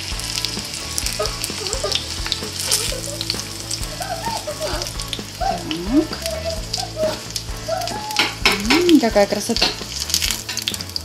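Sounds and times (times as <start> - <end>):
cutlets sizzling in oil: 0.0 - 11.0.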